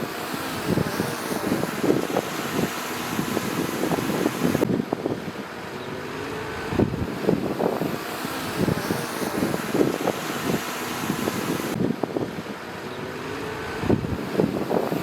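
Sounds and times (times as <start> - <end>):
bulldozer diesel engine under load: 0.0 - 15.0.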